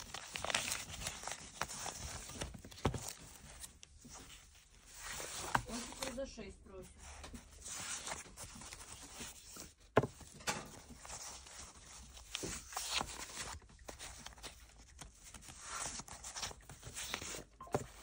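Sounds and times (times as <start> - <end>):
paper record sleeves rustling: 0.0 - 18.0.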